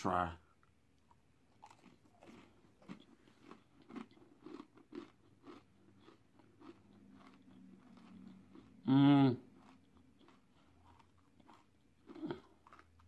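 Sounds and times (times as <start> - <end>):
person chewing crunchy granola bar: 1.0 - 13.0.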